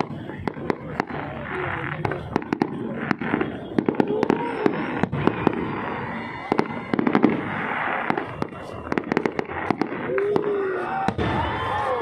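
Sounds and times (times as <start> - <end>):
crowd chatter: 0.0 - 12.0
fireworks cracking and popping: 0.0 - 12.0.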